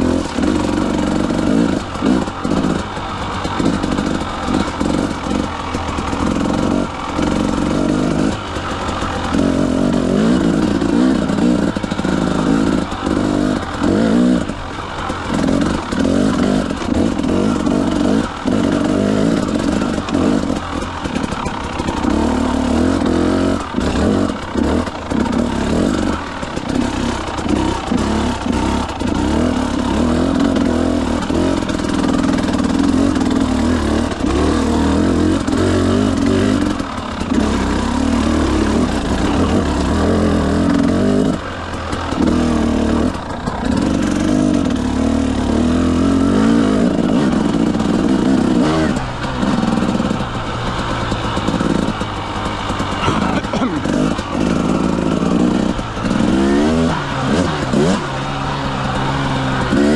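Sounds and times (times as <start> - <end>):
motorcycle engine revving: 0.0 - 59.9
steady rushing noise: 0.0 - 59.9.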